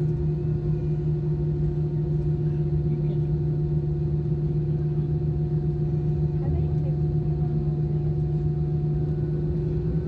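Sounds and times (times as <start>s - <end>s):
airliner drone: 0.0s - 10.0s.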